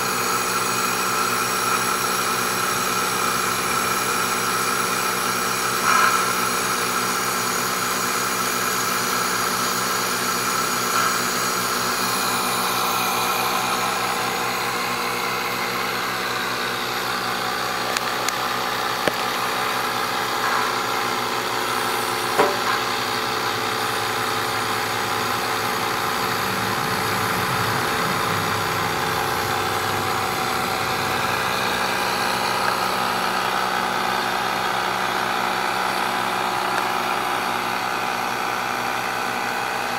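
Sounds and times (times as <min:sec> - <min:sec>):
blower motor humming: 0:00.0 - 0:39.9.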